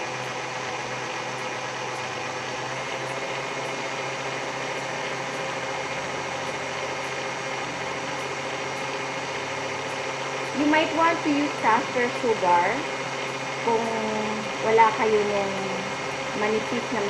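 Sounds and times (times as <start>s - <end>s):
stand mixer motor running: 0.0s - 17.0s.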